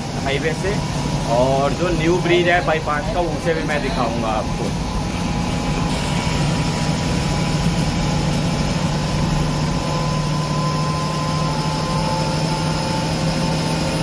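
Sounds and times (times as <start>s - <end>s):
heavy vehicle engine drone: 0.0s - 14.0s
road noise: 0.0s - 14.0s.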